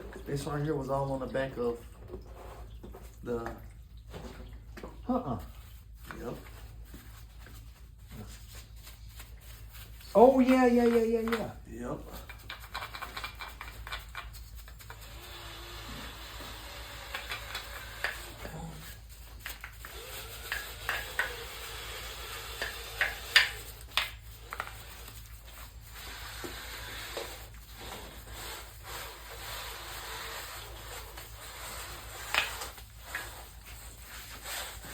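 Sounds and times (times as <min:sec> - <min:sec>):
scrubbing and scraping engine parts: 0:00.0 - 0:34.9.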